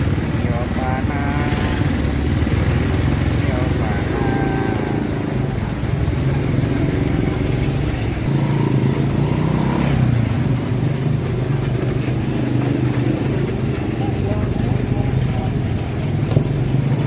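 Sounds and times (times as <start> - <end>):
motorcycle engine humming: 0.0 - 17.0.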